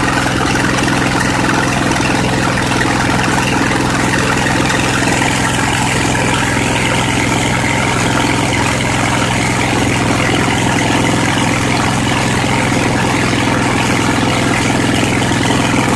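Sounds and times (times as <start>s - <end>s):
engine running steadily: 0.0s - 15.9s.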